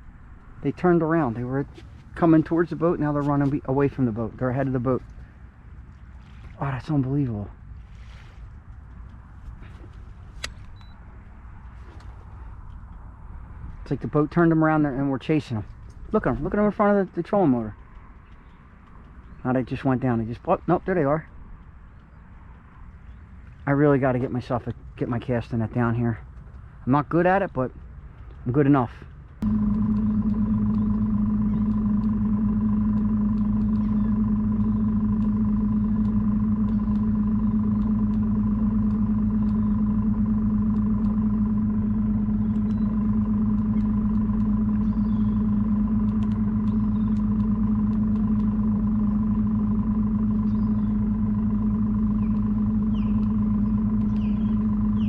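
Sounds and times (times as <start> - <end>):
outboard motor idling: 0.0 - 26.0, 29.4 - 55.0.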